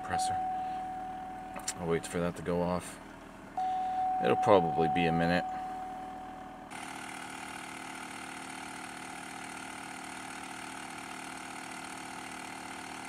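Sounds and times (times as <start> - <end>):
air compressor running: 0.0 - 13.0
car engine idling: 0.0 - 13.0.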